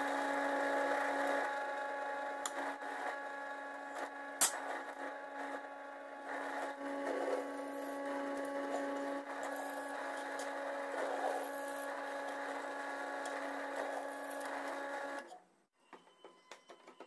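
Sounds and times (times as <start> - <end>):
power tool motor whining: 0.0 - 15.3.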